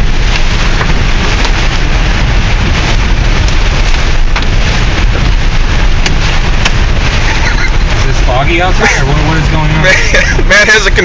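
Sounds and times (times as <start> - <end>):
heavy rain: 0.0 - 11.0
raindrops ticking on car: 0.0 - 11.0
tyre spray on wet road: 0.0 - 11.0
wind noise: 0.0 - 11.0.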